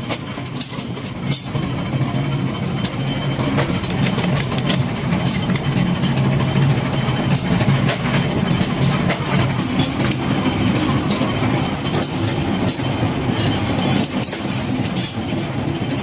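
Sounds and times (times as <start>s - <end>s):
workshop machinery humming: 0.0s - 16.0s.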